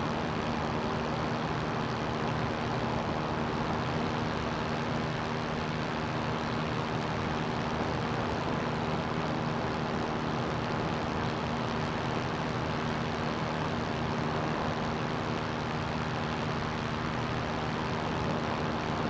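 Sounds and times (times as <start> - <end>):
ultralight aircraft engine drone: 0.0 - 19.0.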